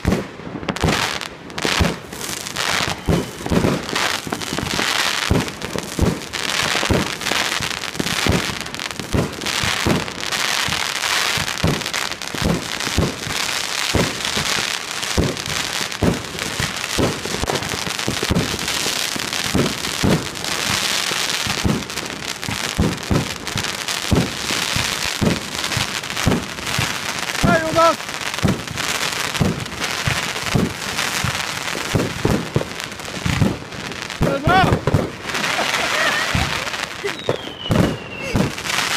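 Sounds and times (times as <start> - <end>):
crackling hiss of bursting shells: 0.0 - 38.9
fireworks bangs: 0.0 - 38.9.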